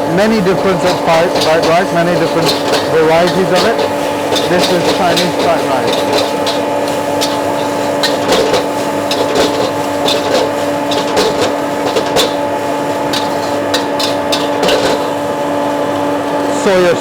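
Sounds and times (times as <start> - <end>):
steady hum: 0.0 - 17.0
metal spatula scraping a wok: 0.4 - 15.2.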